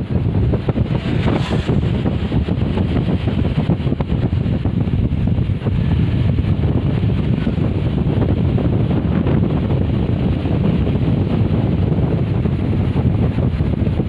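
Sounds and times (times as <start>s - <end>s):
bus engine and road noise: 0.0s - 14.0s
wind buffeting microphone: 0.0s - 14.0s.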